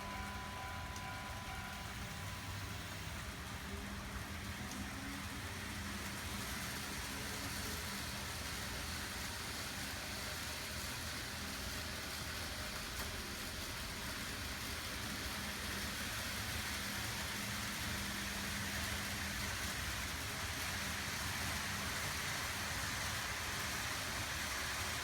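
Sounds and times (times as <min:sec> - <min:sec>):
model train motors whirring: 0:00.0 - 0:25.0.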